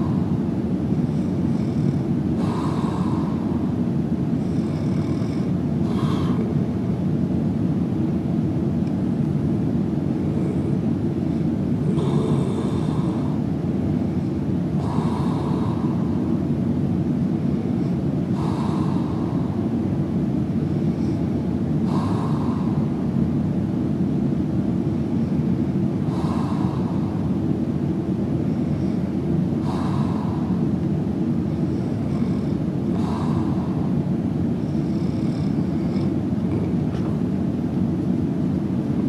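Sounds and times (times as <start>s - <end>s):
man snoring softly: 0.0s - 7.0s, 10.0s - 16.6s, 17.2s - 23.1s, 25.0s - 37.2s
steady low rumble: 0.0s - 39.0s.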